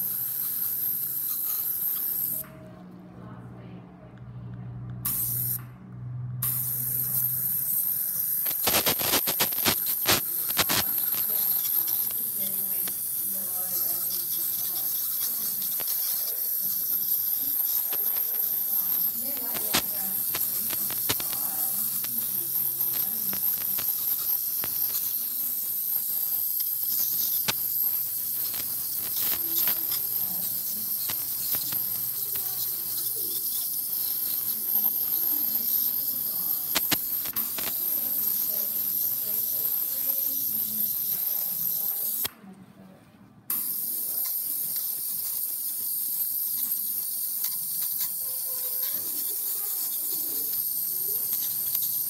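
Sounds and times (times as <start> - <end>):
dental scaler high hiss: 0.0 - 2.4, 6.4 - 42.3, 43.5 - 52.0.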